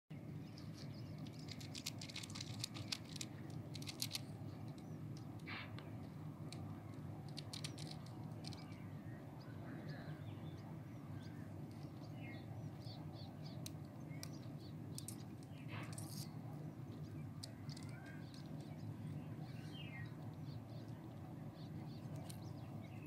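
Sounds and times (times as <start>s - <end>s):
birds chirping: 0.1s - 23.0s
faint low rumble: 0.1s - 23.0s.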